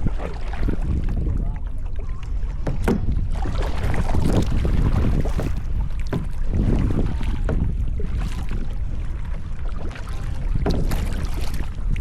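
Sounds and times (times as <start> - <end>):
kayak paddle splashing in water: 0.0 - 12.0
wind rumble on microphone: 0.0 - 12.0.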